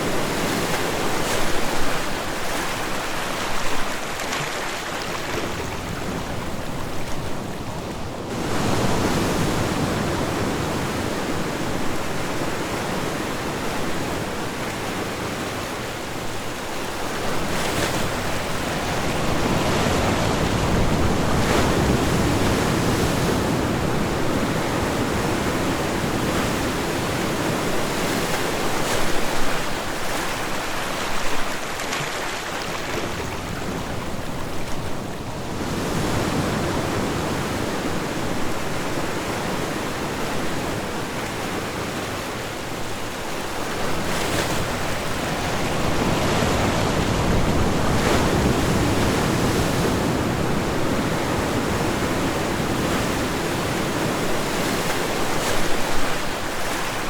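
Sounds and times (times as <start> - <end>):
ocean surf rushing onto shore: 8.2 - 57.0.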